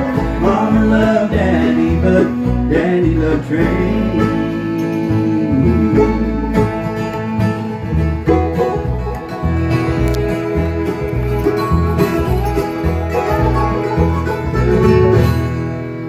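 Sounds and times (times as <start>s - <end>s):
banjo: 0.0s - 16.0s
guitar: 0.0s - 16.0s
pulsing bass: 0.0s - 16.0s.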